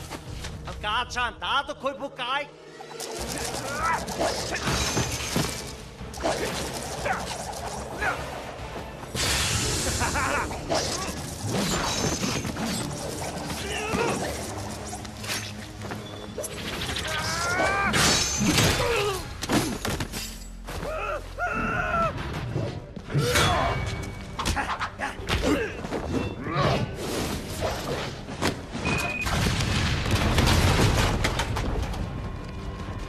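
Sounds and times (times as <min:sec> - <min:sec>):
film score music: 0:00.0 - 0:33.0.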